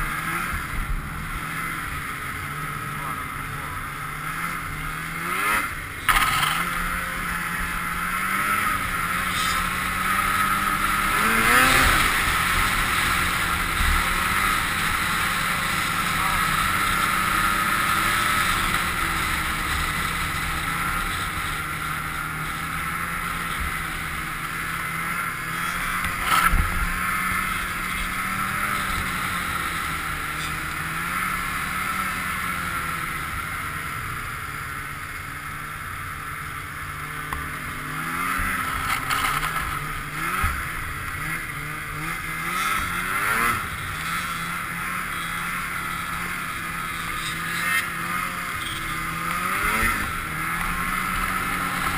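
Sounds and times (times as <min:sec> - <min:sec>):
snowmobile engine running: 0:00.0 - 0:51.9
snowmobile track noise: 0:00.0 - 0:51.9.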